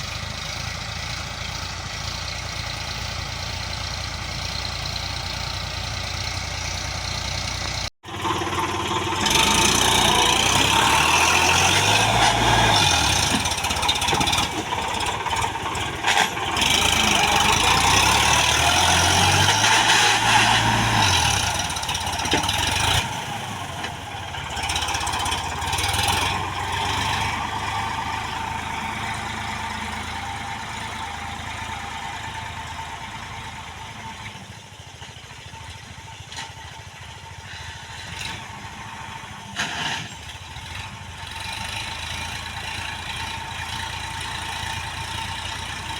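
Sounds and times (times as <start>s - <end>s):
tractor diesel engine revving: 0.0s - 45.9s.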